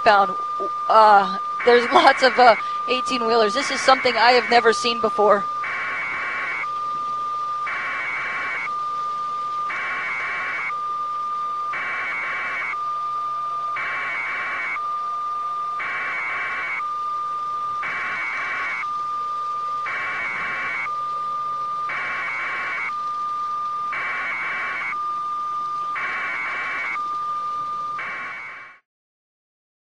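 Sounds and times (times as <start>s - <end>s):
electronic alarm warble and beep: 0.0s - 28.8s.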